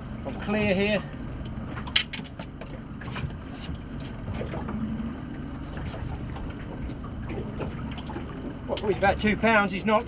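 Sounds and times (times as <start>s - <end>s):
low rumble: 0.0s - 10.0s
water sloshing against boat hull: 0.0s - 10.0s.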